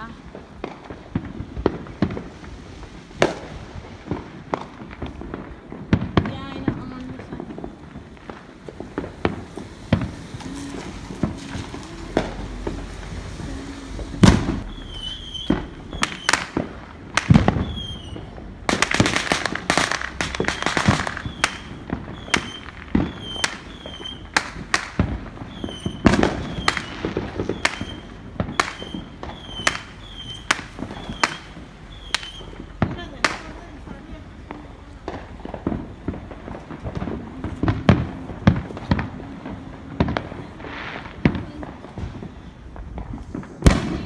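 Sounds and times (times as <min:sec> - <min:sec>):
fireworks bangs: 0:00.0 - 0:44.0
fireworks crackling burst: 0:00.0 - 0:44.0.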